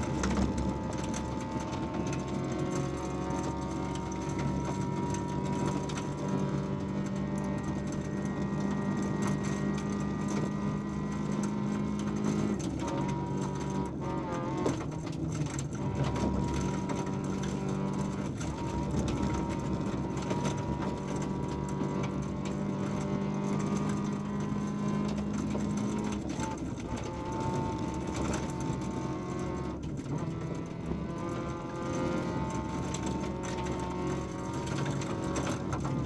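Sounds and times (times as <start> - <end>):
car engine running hard: 0.0 - 36.0
gravel knocks and rattles: 0.0 - 36.0.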